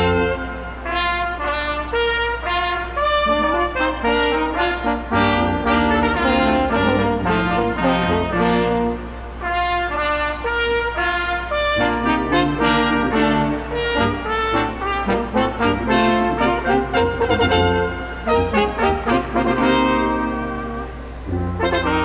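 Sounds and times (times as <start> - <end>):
brass ensemble playing chords: 0.0 - 22.0.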